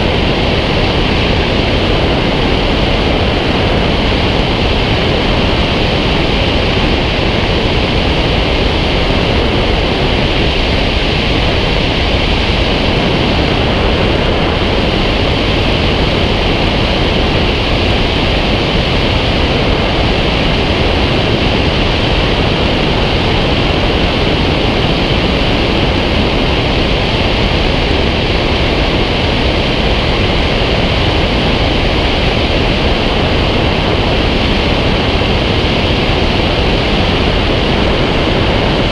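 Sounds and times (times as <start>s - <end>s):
wind buffeting camera: 0.0s - 38.9s.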